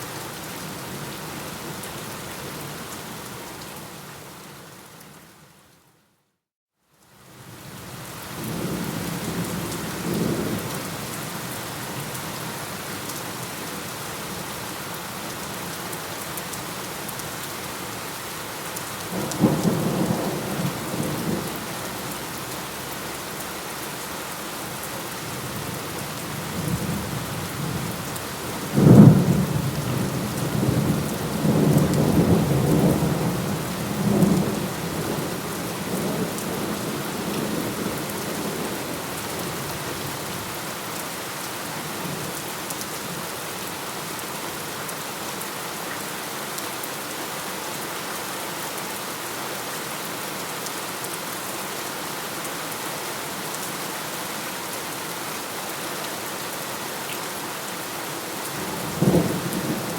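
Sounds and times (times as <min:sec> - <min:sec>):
steady rain: 0:00.0 - 0:06.1, 0:06.8 - 0:59.9.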